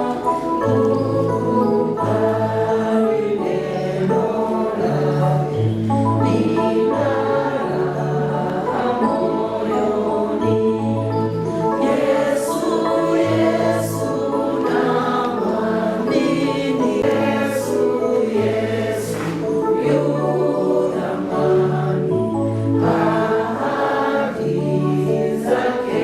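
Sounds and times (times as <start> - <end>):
voices singing a hymn: 0.0 - 26.0.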